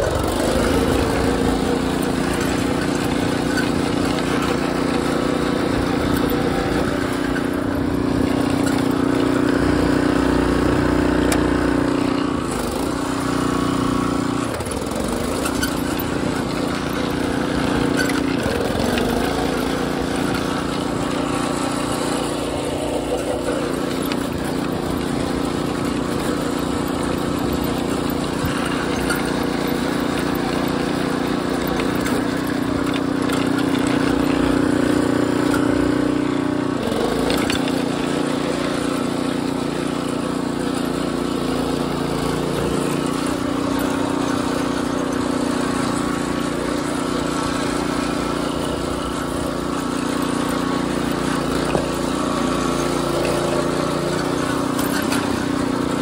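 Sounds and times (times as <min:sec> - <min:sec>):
garden tractor engine running: 0:00.0 - 0:56.0.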